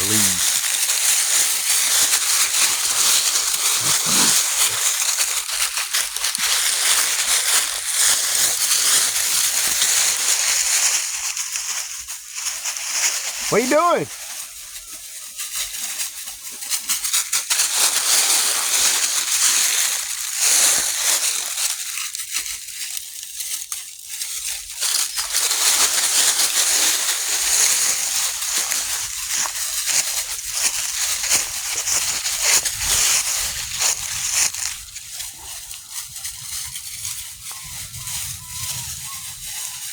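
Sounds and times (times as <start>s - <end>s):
dry leaves rustling and crunching: 0.0s - 39.9s.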